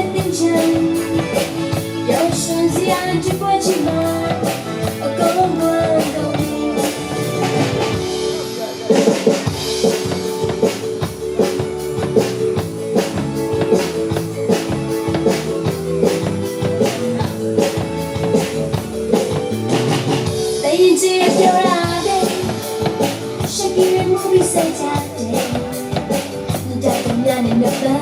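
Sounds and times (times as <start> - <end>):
drum kit beat: 0.0 - 28.0
live band instrumental: 0.0 - 28.0.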